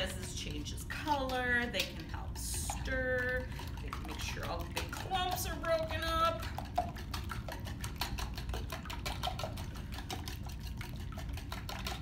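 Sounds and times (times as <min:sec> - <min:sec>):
egg mixture sloshing: 0:00.0 - 0:12.0
whisk clicking against bowl: 0:00.0 - 0:12.0.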